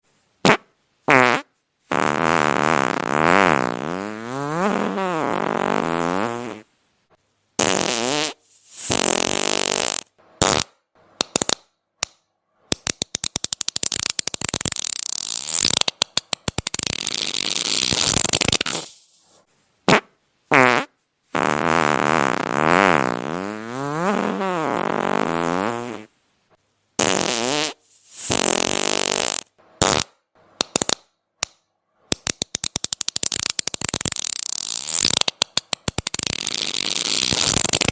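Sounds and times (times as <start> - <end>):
farting sounds: 0.4 - 6.7, 7.6 - 11.6, 12.8 - 26.2, 27.0 - 31.0, 32.1 - 37.9.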